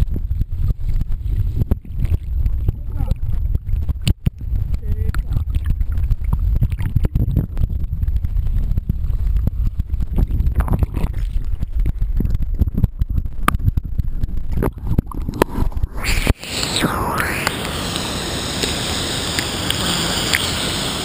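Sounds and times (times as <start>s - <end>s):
creek water churning and splashing: 0.0s - 13.2s, 13.9s - 21.0s.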